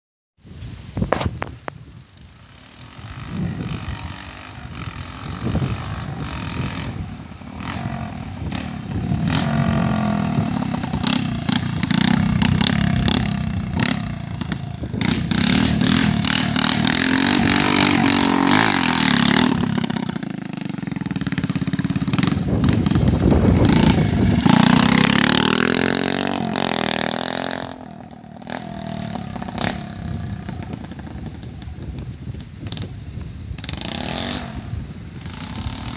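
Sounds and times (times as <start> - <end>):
engine revving: 2.5 - 31.4, 33.6 - 35.9.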